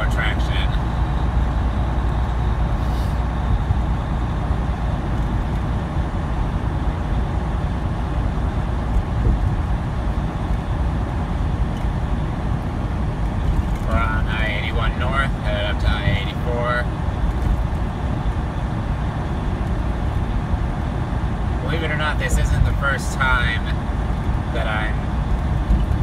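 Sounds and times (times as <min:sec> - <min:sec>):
road noise: 0:00.0 - 0:26.0
truck diesel engine drone: 0:00.0 - 0:26.0.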